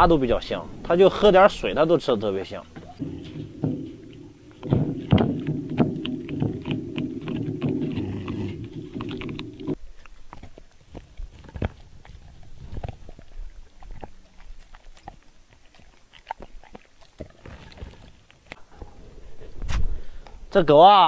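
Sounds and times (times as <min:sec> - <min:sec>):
dog chewing food: 0:02.6 - 0:19.6.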